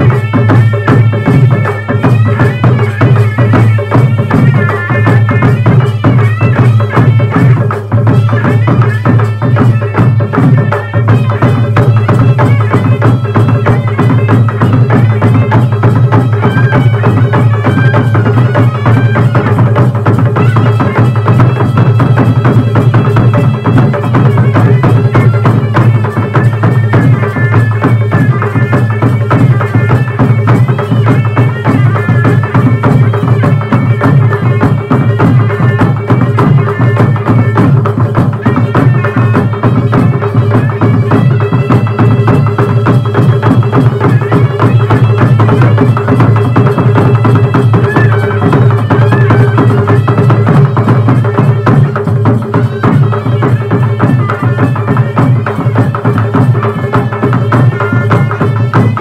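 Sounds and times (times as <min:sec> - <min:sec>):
barrel drum beat: 0:00.0 - 0:59.0
reed pipe melody: 0:00.0 - 0:59.0
stick-beaten drums: 0:00.0 - 0:59.0.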